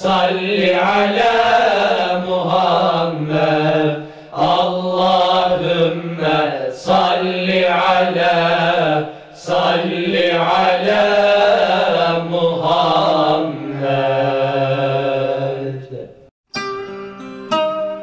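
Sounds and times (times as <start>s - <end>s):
choir chanting in unison: 0.0s - 16.3s.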